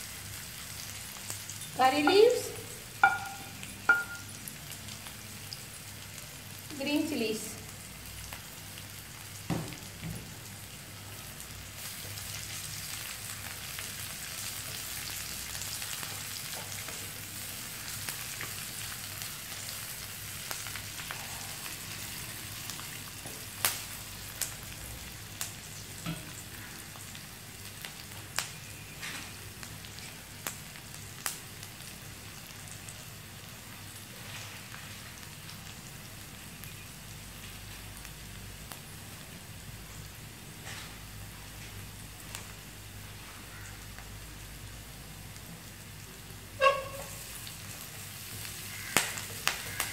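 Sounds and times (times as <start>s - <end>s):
vegetables sizzling in hot oil: 0.0s - 49.9s.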